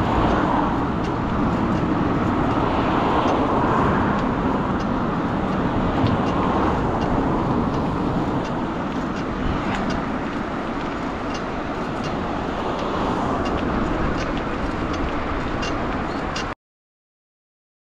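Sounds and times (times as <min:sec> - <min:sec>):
bicycle tyres on asphalt: 0:00.0 - 0:16.5
wind on microphone: 0:00.0 - 0:16.5
passing cars: 0:00.0 - 0:16.6.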